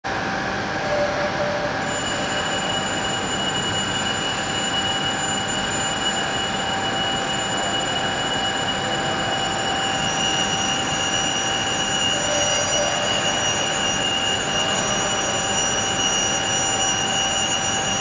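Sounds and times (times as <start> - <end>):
high whining tones: 0.8 - 18.0.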